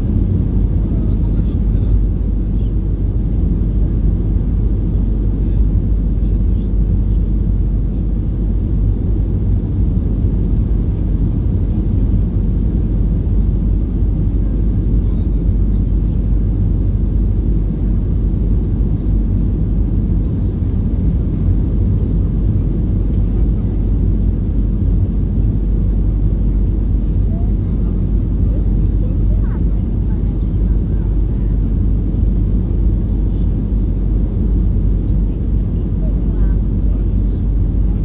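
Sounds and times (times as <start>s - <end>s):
airliner cabin rumble: 0.0s - 38.0s.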